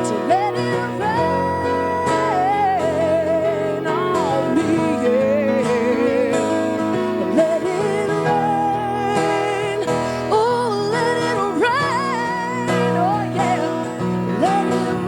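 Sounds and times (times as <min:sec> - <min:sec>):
acoustic guitar: 0:00.0 - 0:15.0
woman singing with vibrato: 0:00.0 - 0:15.0.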